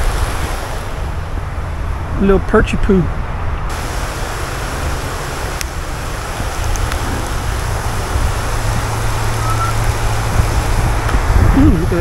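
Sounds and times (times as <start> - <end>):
river water running over stones: 0.0 - 2.4, 3.7 - 12.0
wind buffeting microphone: 0.0 - 12.0.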